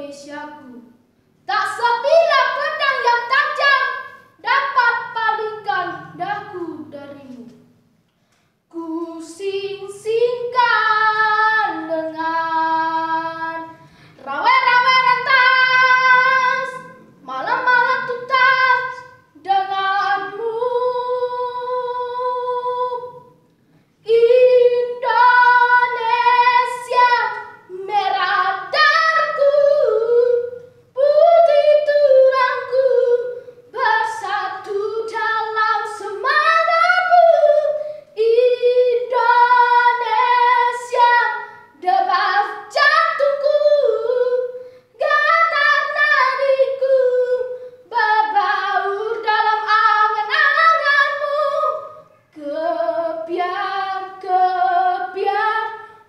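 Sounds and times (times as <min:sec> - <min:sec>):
boy singing unaccompanied: 0:00.0 - 0:07.7, 0:08.7 - 0:23.3, 0:24.1 - 0:55.8.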